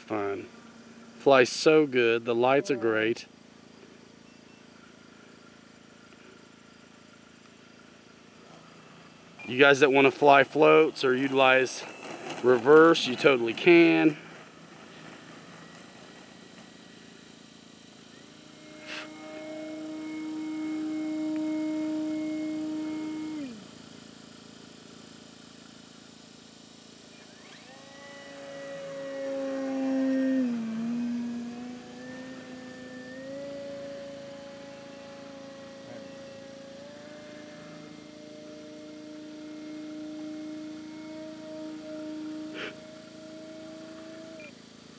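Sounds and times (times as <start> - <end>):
electric motor and propeller whine: 0.0 - 44.9.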